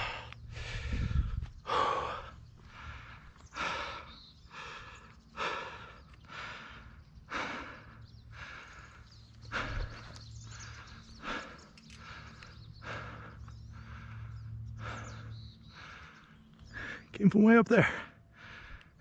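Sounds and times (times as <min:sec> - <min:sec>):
low steady rumble: 0:00.0 - 0:04.0, 0:04.6 - 0:17.0
person breathing hard: 0:00.0 - 0:17.1, 0:17.9 - 0:19.0.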